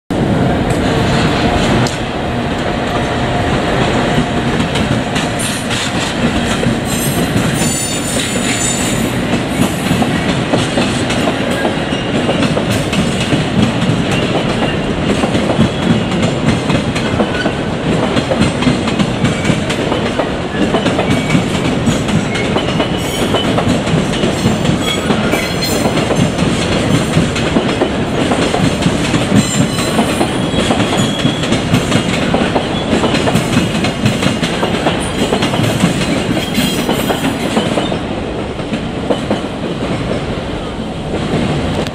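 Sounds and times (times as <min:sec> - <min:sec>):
train wagons rumbling: 0:00.1 - 0:41.9
wheels clacking on rails: 0:00.1 - 0:41.9.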